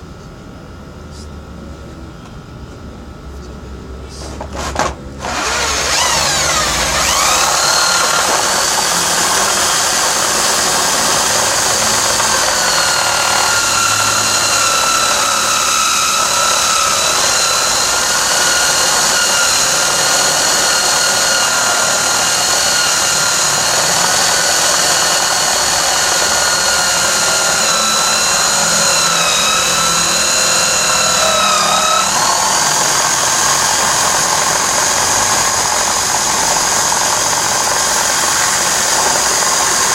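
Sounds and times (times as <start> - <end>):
electric drill whining: 4.3 - 39.9.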